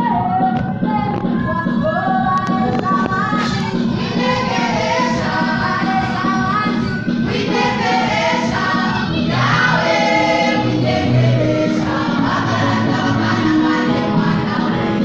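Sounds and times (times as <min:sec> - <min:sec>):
choir singing gospel song: 0:02.0 - 0:15.0.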